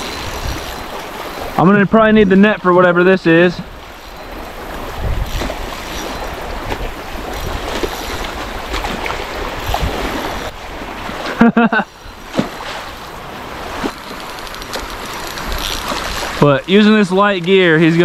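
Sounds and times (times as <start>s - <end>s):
wind rumbling on microphone: 0.0s - 2.4s, 3.6s - 11.3s, 12.0s - 18.0s
waves lapping at shore: 0.0s - 18.0s.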